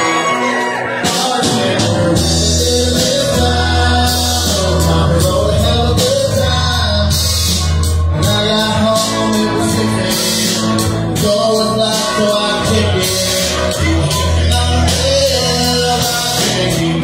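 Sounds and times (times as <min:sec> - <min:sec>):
bass notes: 0:00.0 - 0:17.0
guitar: 0:00.0 - 0:17.0
person singing: 0:00.0 - 0:17.0.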